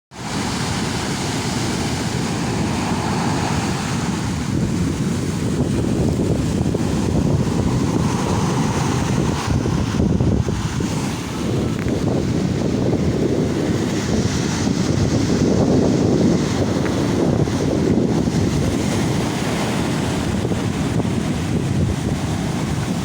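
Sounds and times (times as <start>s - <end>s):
waves surging: 0.1s - 23.0s
wind rumbling on microphone: 0.2s - 23.0s.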